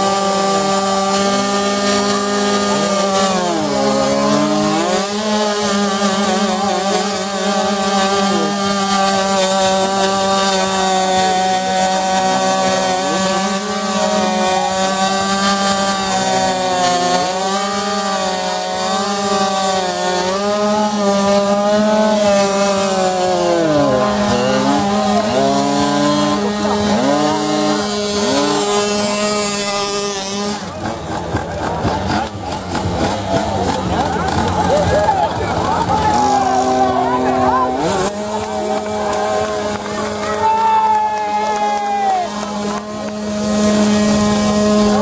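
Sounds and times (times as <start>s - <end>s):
scooter engine revving: 0.0s - 45.0s.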